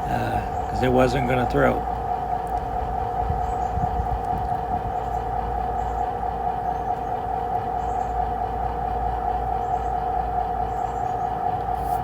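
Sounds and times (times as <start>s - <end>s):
model locomotive humming: 0.0s - 12.0s.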